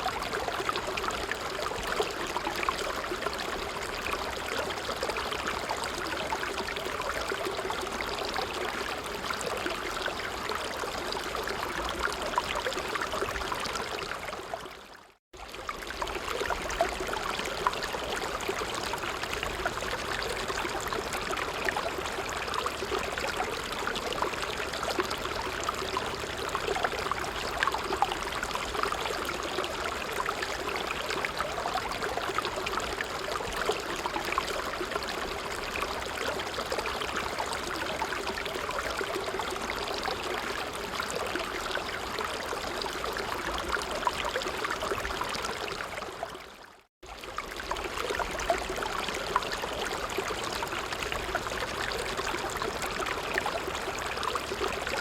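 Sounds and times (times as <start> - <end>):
small stream running: 0.0 - 55.0
water trickling and splashing: 0.0 - 55.0.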